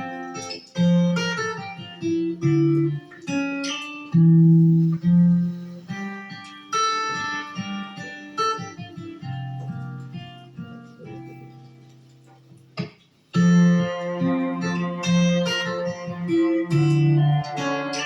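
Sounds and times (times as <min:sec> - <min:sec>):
guitar playing slowly: 0:00.0 - 0:18.0.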